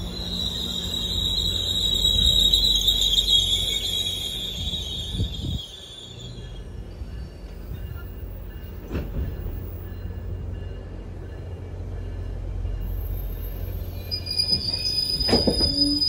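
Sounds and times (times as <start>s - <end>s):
high brake squeal: 0.0s - 10.2s, 12.8s - 16.0s
train wheels rumbling on rails: 0.0s - 16.0s.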